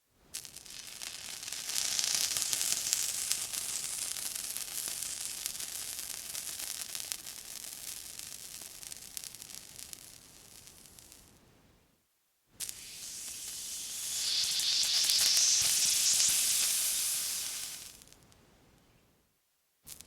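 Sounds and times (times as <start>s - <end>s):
water sizzling on hot surface: 0.4s - 11.2s, 12.6s - 18.2s.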